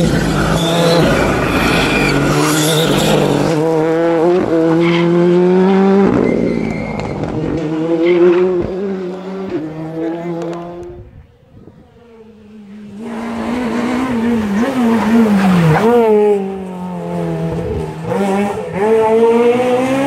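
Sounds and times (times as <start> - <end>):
rally car engine revving: 0.0 - 11.1, 11.7 - 20.0.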